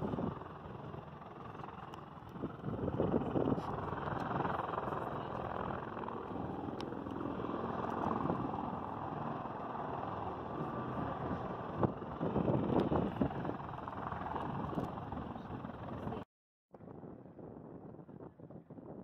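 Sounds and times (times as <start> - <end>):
wind gusts on microphone: 0.0 - 16.2, 16.8 - 19.0
distant helicopter engines running: 0.0 - 16.3.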